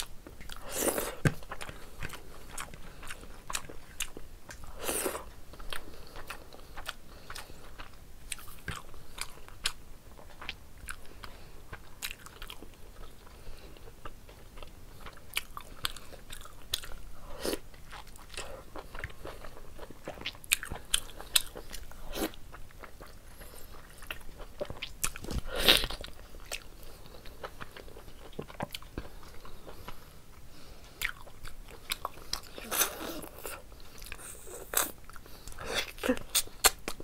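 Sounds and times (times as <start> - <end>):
person chewing and smacking: 0.0 - 37.0.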